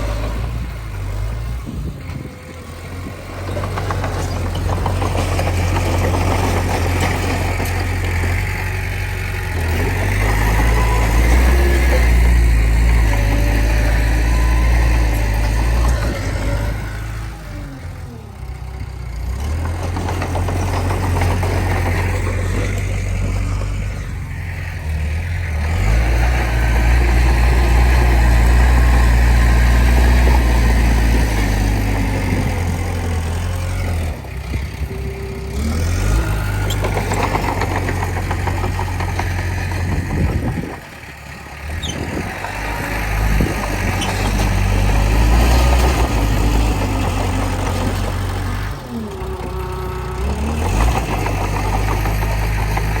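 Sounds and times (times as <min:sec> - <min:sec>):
bulldozer diesel engine under load: 0:00.0 - 0:53.0.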